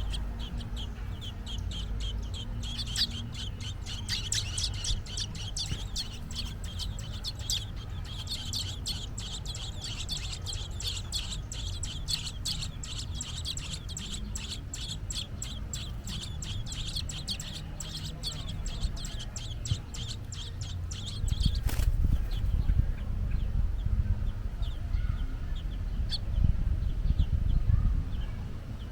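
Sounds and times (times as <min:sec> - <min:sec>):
robins chirping: 0:00.0 - 0:27.6.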